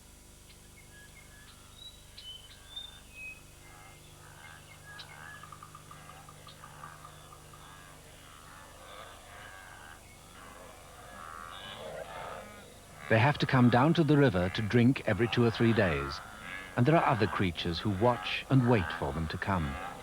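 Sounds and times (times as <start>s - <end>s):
faint bird calls: 0.5s - 20.0s.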